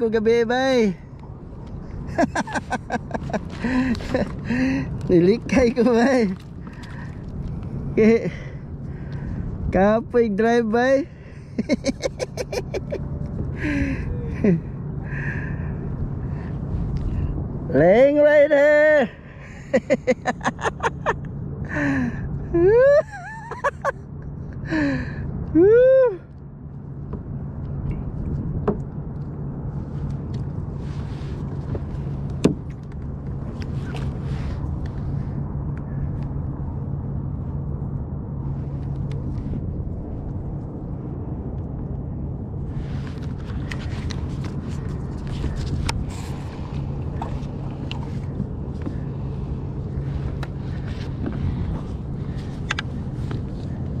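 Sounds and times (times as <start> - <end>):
low hum: 0.0 - 54.0.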